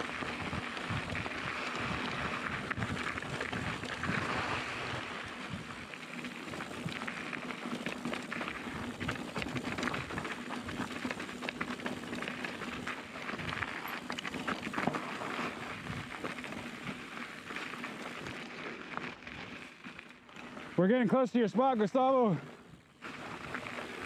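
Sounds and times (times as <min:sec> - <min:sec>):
bike rattling: 0:00.0 - 0:24.0
bike tyres crunching on stones: 0:00.0 - 0:24.0.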